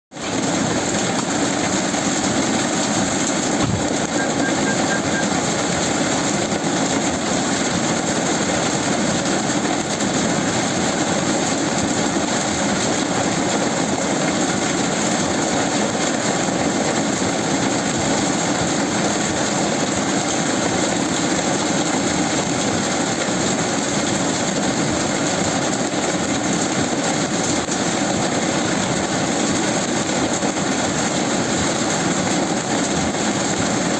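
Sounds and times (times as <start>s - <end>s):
heavy rain: 0.1s - 33.9s.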